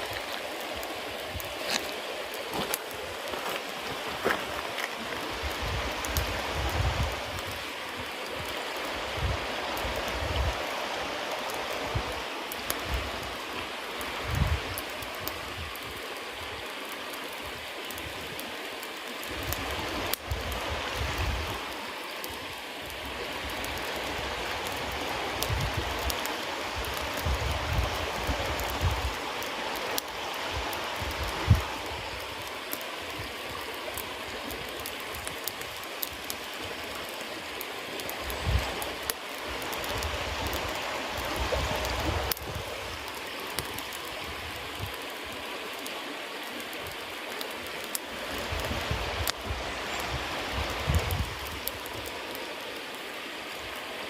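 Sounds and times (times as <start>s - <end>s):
bonfire hissing and crackling: 0.0s - 54.0s.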